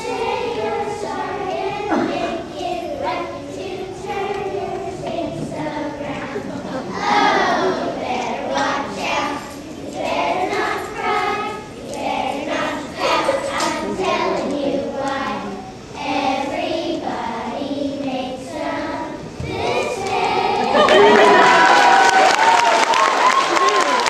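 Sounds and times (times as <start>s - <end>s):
children singing in chorus: 0.0s - 21.6s.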